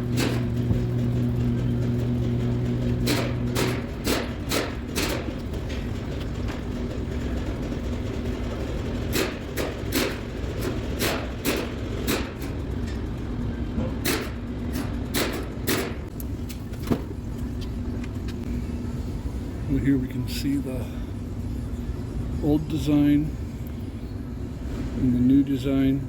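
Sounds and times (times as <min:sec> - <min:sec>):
low workshop hum: 0:00.0 - 0:26.0.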